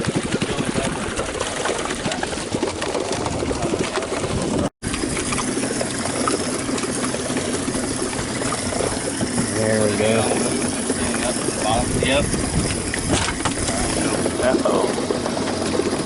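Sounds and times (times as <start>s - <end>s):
water splashing and churning: 0.0s - 16.0s.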